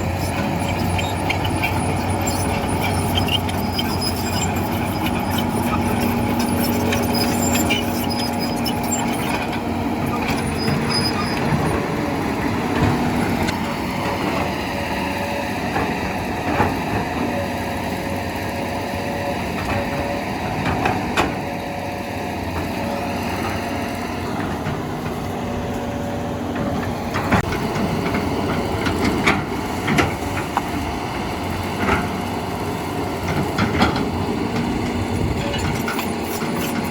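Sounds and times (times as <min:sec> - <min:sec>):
heavy machine engine running: 0:00.0 - 0:36.9.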